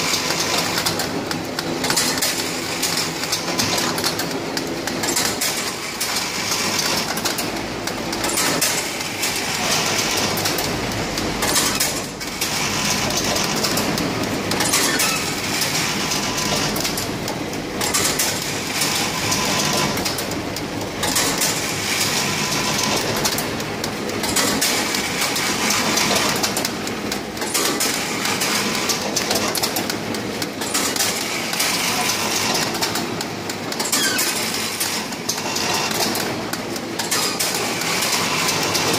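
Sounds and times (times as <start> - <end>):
packing machine clattering: 0.0 - 38.9.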